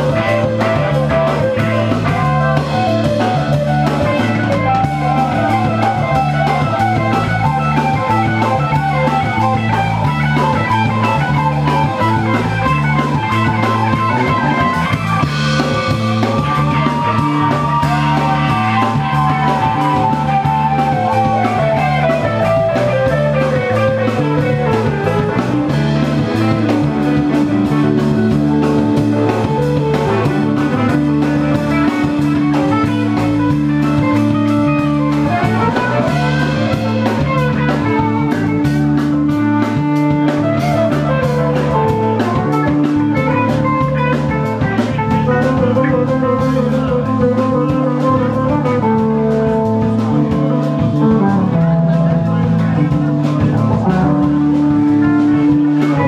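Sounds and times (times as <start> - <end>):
rock band playing instrumental: 0.0 - 56.0.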